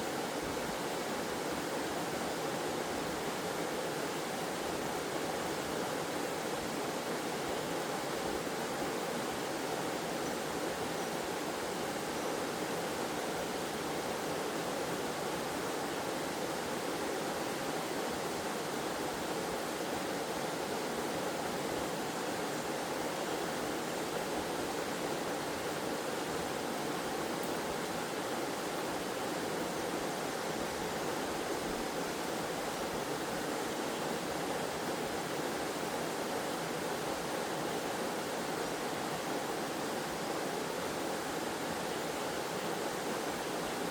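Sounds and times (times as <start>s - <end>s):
stream water rushing: 0.0s - 43.9s.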